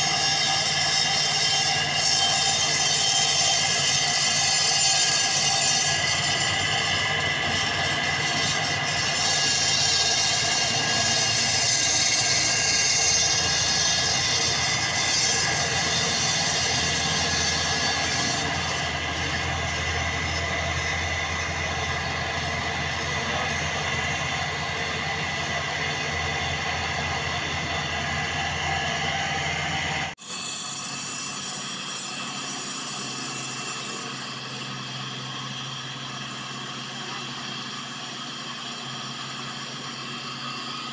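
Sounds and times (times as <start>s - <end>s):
concrete saw cutting floor: 0.0s - 40.9s.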